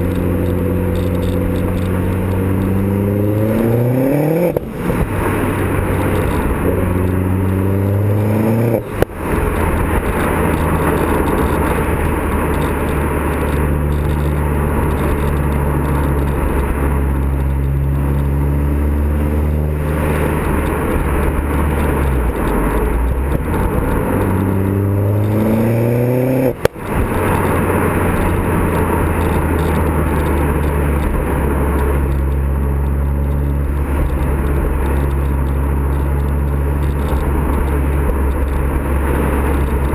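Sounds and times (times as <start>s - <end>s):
car engine accelerating: 0.0s - 39.9s
gear change: 0.0s - 39.9s.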